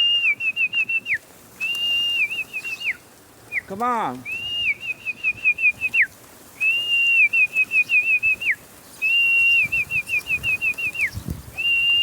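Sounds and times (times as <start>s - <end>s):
person whistling bird call: 0.0s - 12.0s.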